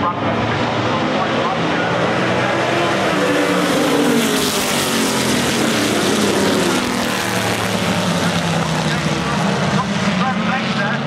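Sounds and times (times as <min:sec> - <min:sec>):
racing cars accelerating: 0:00.0 - 0:11.0.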